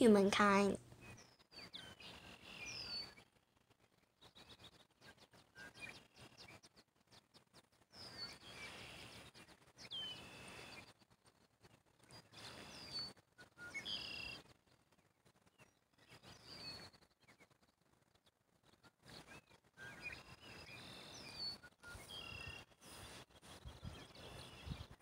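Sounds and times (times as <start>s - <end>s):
soft outdoor hiss: 0.0s - 24.6s.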